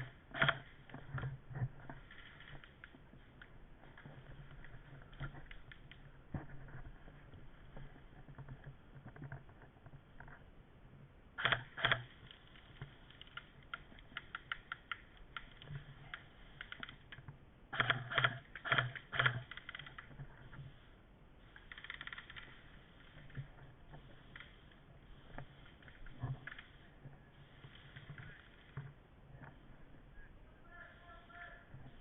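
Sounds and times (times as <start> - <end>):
light ticking and rustling: 0.0 - 10.5, 11.4 - 29.9.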